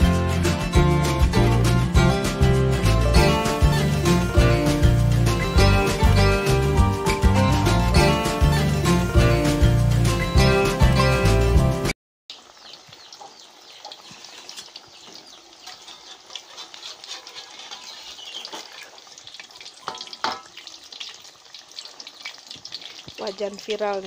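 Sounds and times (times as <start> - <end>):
food deep-frying in hot oil: 0.0 - 24.0.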